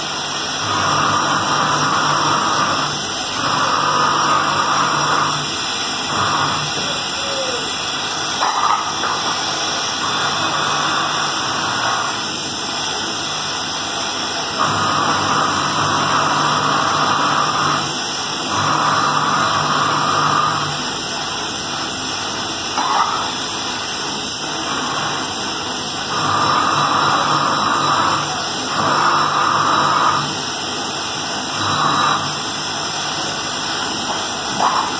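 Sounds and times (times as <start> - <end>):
welding torch flame hissing: 0.0 - 34.9.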